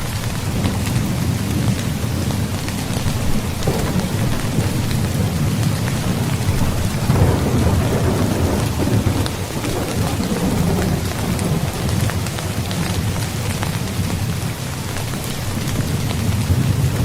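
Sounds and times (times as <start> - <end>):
heavy rain falling: 0.0 - 17.0
thunder rumbling: 0.0 - 17.0.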